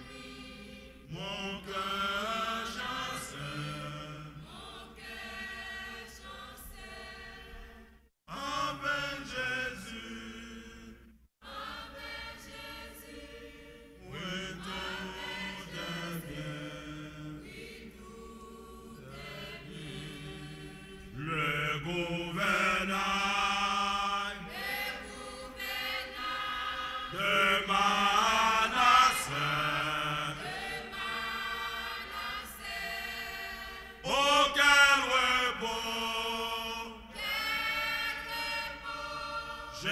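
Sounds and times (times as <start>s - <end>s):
women's choir singing a hymn: 0.0s - 39.9s.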